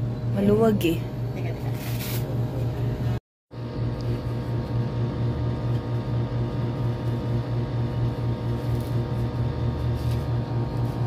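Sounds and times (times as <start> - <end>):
small air pump humming: 0.0 - 11.0.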